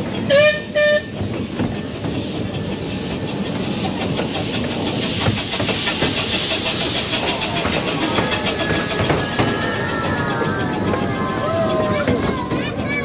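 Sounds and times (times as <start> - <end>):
rushing hiss in metal tunnel: 0.0 - 12.7
train wheels rumbling and clattering: 0.0 - 13.0.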